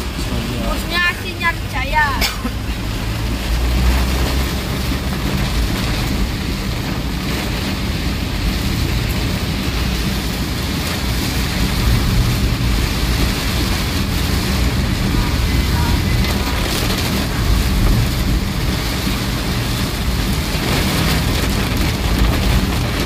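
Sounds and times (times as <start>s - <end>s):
engine and tyre hum: 0.0s - 23.0s
heavy rain on vehicle: 0.0s - 23.0s.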